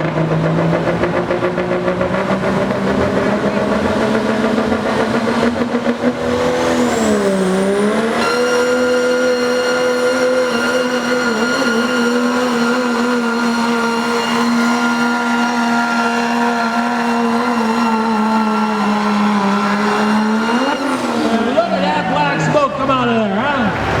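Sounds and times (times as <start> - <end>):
diesel truck engine at high revs: 0.0 - 24.0.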